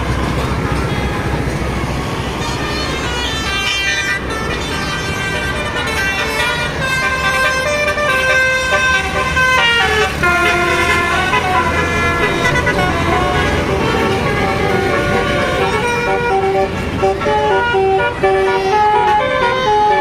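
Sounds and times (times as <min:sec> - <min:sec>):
bus engine rumble: 0:00.0 - 0:20.0
road traffic: 0:00.0 - 0:20.0
multi-tone musical air horn: 0:00.1 - 0:20.0.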